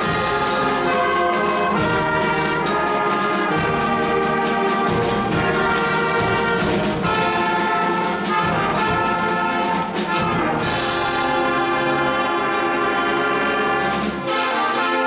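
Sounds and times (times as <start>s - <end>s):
concert band playing brass chords: 0.0s - 15.0s.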